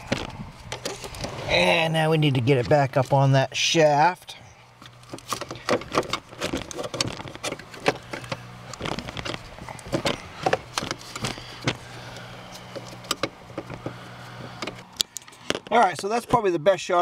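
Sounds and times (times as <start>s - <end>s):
low hum: 0.0s - 16.8s.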